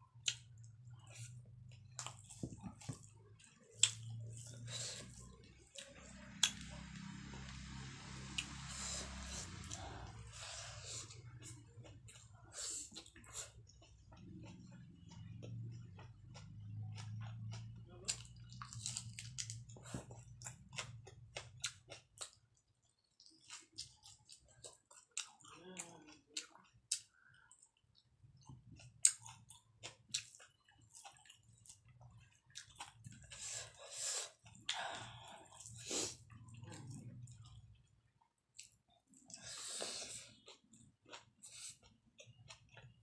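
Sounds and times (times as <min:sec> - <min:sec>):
low steady hum: 0:00.0 - 0:41.0
person chewing: 0:00.1 - 0:43.0.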